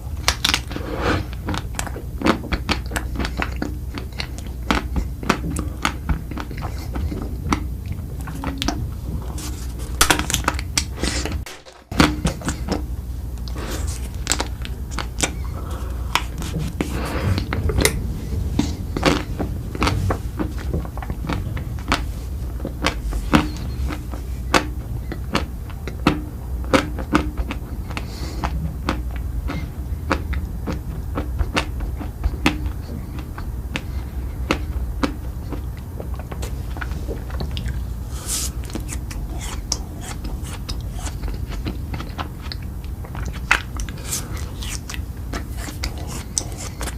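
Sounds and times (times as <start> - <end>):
crunchy chewing: 0.0 - 46.9
steady low hum: 0.0 - 46.9.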